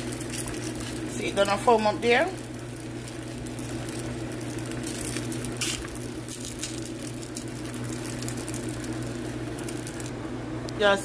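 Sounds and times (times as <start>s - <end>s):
dough crackling in hot pan: 0.0s - 10.1s
steady low hum: 0.0s - 11.0s.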